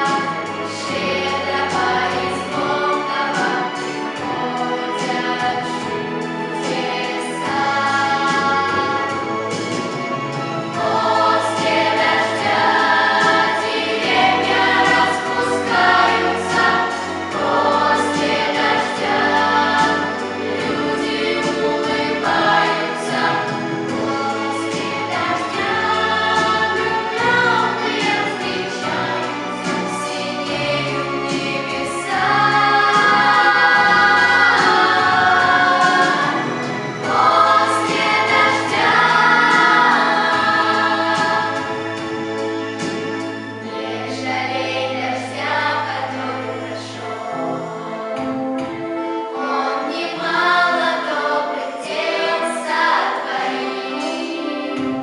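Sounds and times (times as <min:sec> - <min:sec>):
pop backing track with bass: 0:00.0 - 0:48.9
vocal ensemble singing in harmony: 0:00.0 - 0:55.0.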